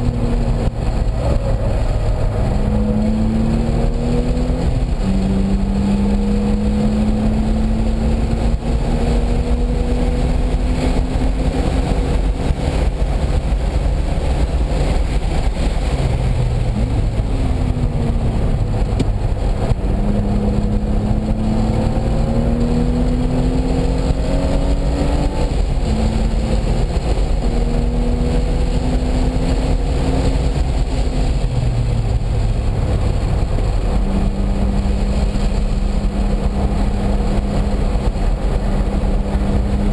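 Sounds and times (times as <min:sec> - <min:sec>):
car engine under load: 0:00.0 - 0:39.9.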